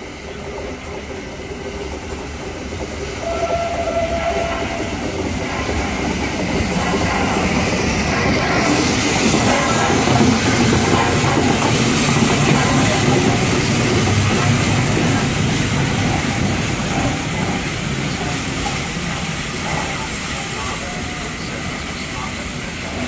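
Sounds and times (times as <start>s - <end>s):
train rumbling past on rails: 0.0s - 23.0s.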